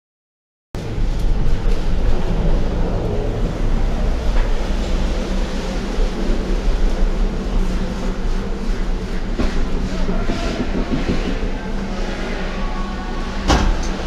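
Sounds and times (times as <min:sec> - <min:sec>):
gondola mechanical rumble: 0:00.8 - 0:14.0.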